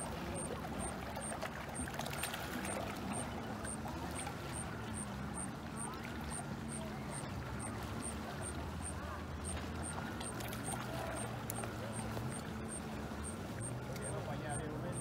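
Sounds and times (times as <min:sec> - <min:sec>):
waves lapping against rocks: 0:00.0 - 0:15.0.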